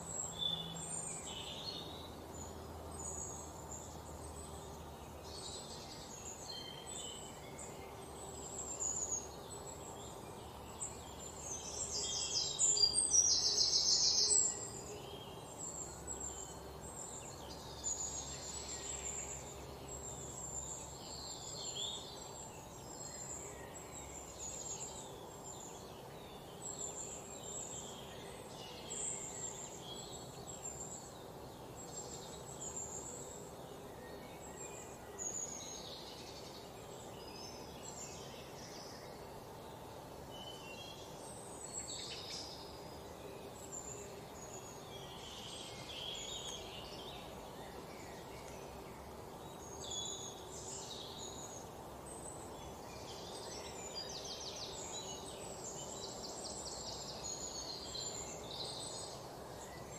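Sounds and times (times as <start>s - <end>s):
low background noise: 0.0s - 59.9s
small birds chirping: 0.0s - 59.9s.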